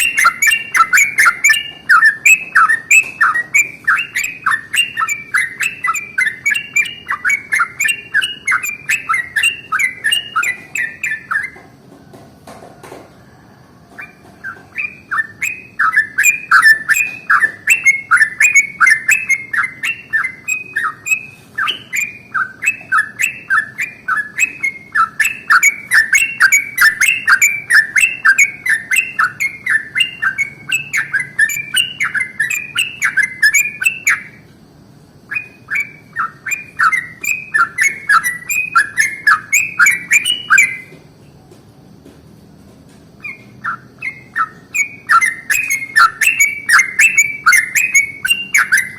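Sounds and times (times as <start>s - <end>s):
bird singing bubbly chirps: 0.0s - 11.6s, 14.0s - 34.5s, 35.2s - 41.0s, 43.2s - 48.9s.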